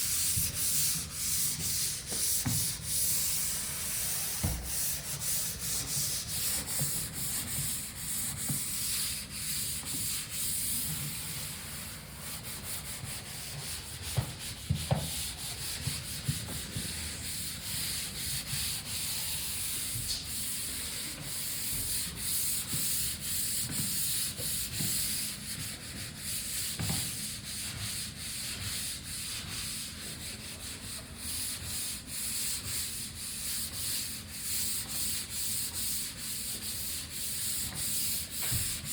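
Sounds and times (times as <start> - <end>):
sanding drywall: 0.0 - 38.9.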